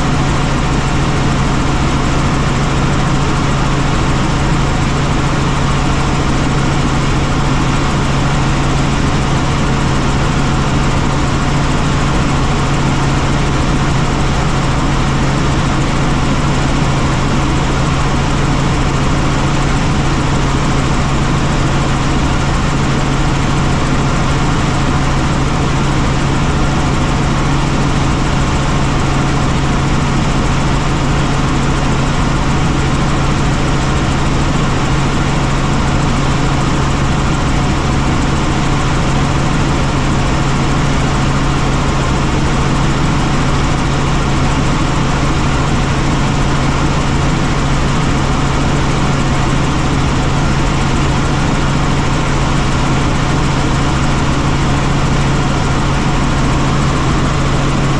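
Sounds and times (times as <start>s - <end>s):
helicopter rotor and engine: 0.0s - 57.9s.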